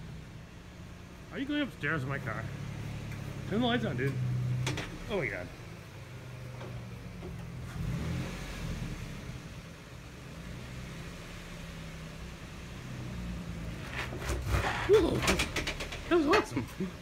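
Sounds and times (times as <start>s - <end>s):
car engine running under load: 0.0s - 17.0s.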